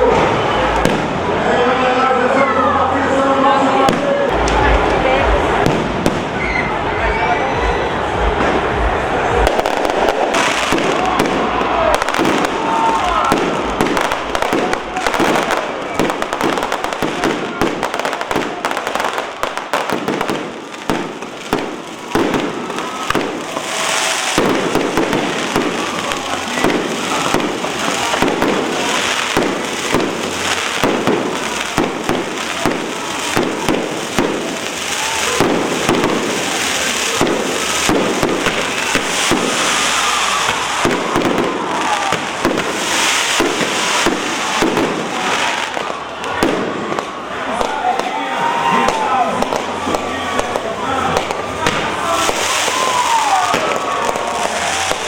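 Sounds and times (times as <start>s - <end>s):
fireworks and firecrackers banging: 0.0s - 2.5s, 3.6s - 55.0s.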